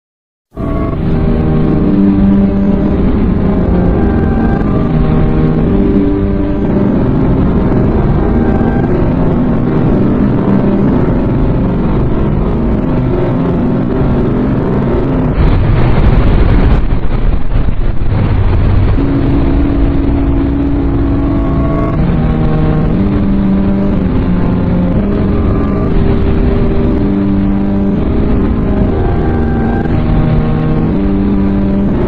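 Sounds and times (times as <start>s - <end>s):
long held stepping tones: 0.5s - 32.0s
rumbling noise: 0.5s - 32.0s
distorted emergency alert alarm: 0.6s - 16.8s, 18.9s - 32.0s
burst of static: 0.6s - 32.0s.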